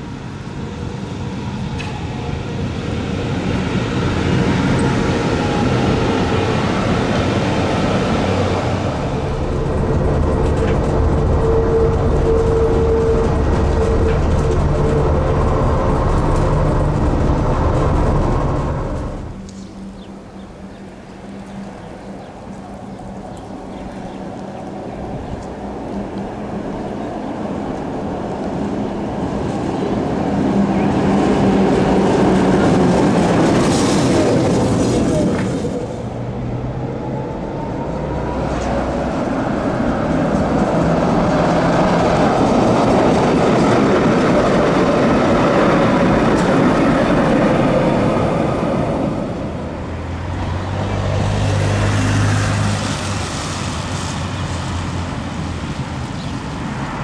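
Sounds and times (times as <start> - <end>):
tram wheels rumbling on rails: 0.0 - 57.0.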